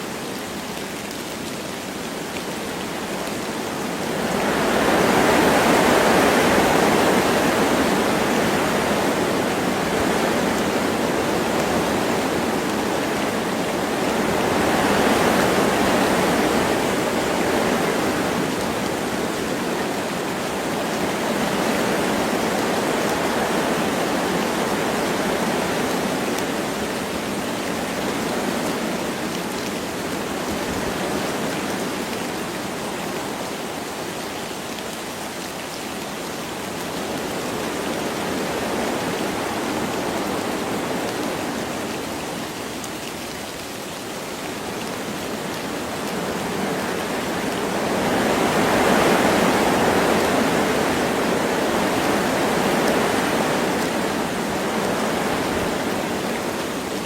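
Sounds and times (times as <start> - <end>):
light rain falling: 0.0 - 57.0
wind rushing through trees: 0.0 - 57.0.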